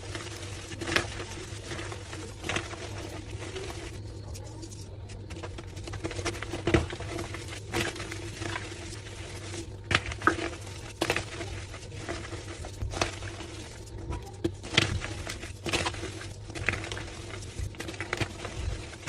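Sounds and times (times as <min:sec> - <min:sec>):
chalk being crushed: 0:00.0 - 0:19.0.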